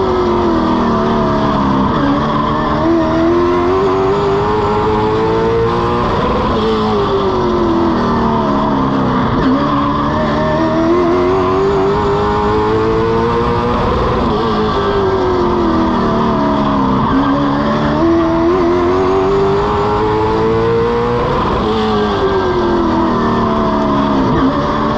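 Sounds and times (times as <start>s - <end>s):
race car engine revving: 0.0s - 24.9s
road and wind noise: 0.0s - 24.9s.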